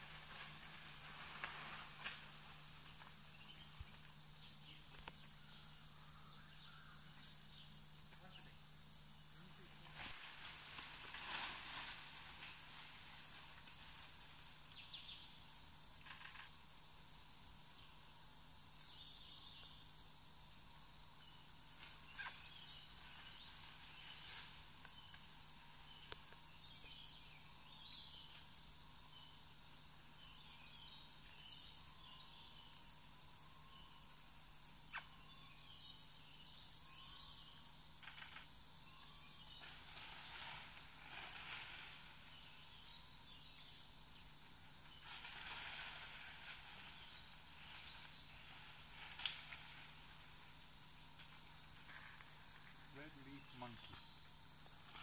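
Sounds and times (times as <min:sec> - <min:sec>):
insects chorus with trill: 0:00.0 - 0:55.0
rustle: 0:00.0 - 0:55.0.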